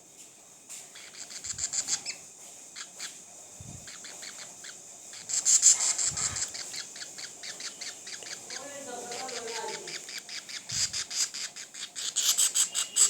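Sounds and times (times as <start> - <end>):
small bird chirping: 0.8 - 13.0.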